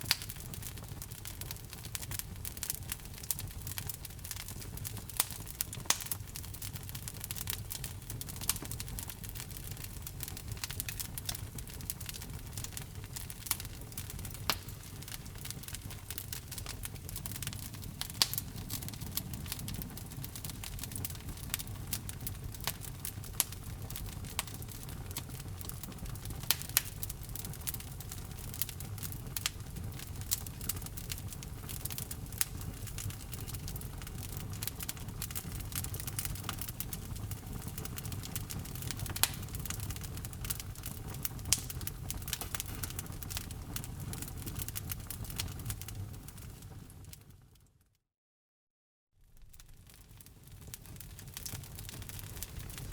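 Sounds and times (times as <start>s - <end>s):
fire burning in a fireplace: 0.0s - 47.8s, 49.2s - 52.9s
fire crackles and pops: 0.0s - 47.8s, 49.2s - 52.9s.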